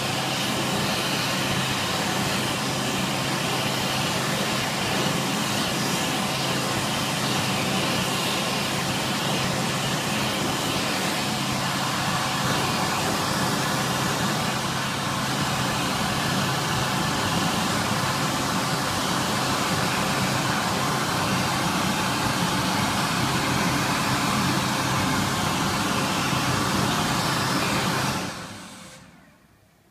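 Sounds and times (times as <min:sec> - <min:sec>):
hand dryer air rushing: 0:00.0 - 0:29.6.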